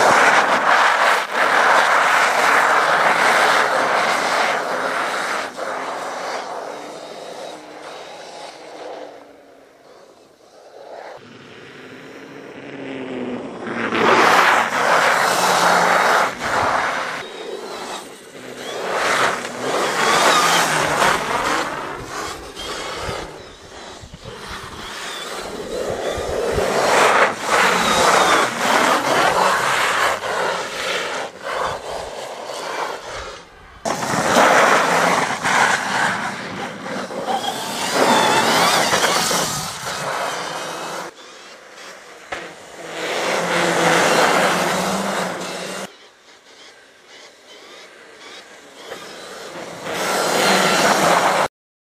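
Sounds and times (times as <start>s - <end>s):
electric motor whine: 3.7s - 51.5s.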